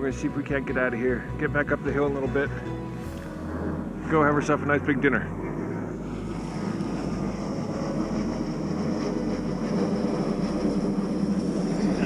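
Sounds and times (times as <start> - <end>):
airplane engine rumble: 0.0 - 12.0.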